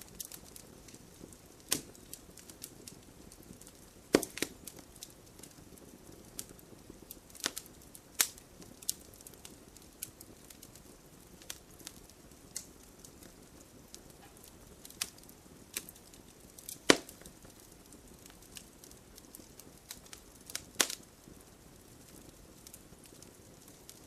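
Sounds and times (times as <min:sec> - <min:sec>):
campfire hiss: 0:00.0 - 0:24.0
wood fire popping and snapping: 0:00.0 - 0:24.0.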